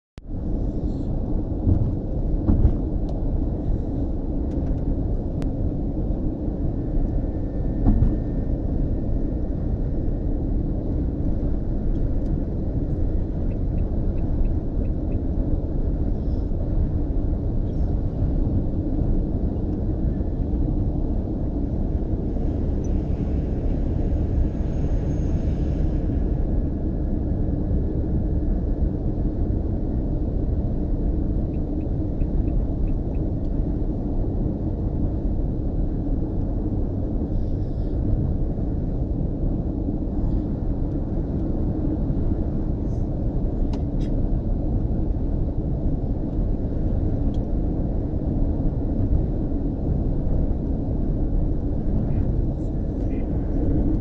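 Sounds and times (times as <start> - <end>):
vehicle road and engine rumble: 0.2 - 54.0.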